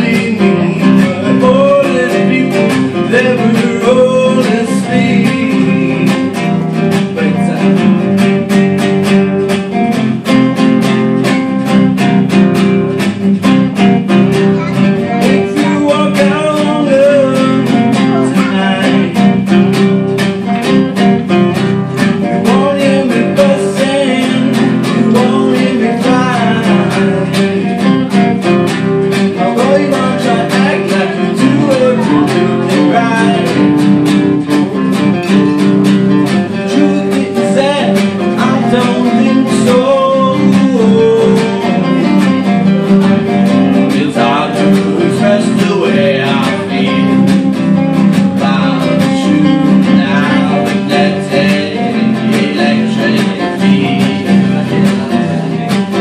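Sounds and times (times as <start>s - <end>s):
man singing: 0.0s - 10.6s, 11.2s - 56.0s
acoustic guitars strumming: 0.0s - 56.0s.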